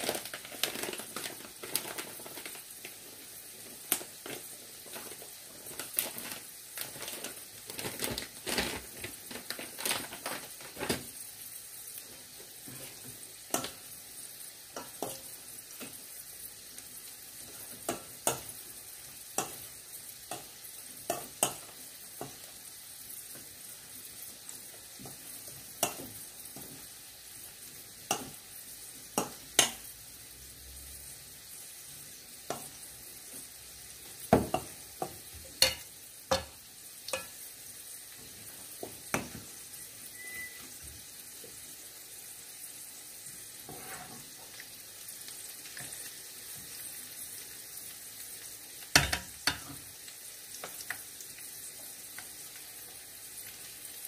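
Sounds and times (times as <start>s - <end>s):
fritters sizzling in oil: 0.0s - 54.0s.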